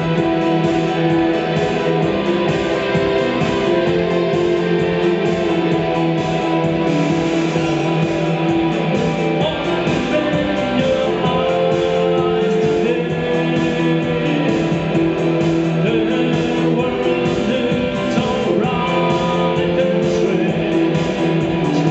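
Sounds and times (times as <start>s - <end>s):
rock music with strummed guitars: 0.0s - 21.9s.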